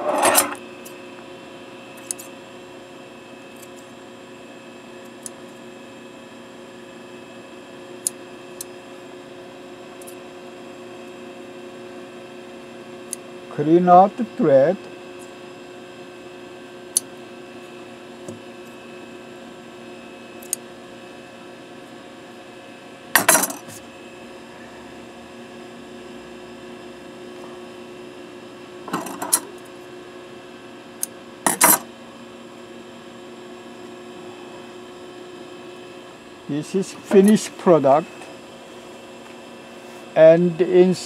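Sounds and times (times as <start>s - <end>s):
steady electrical hum: 0.0s - 41.0s.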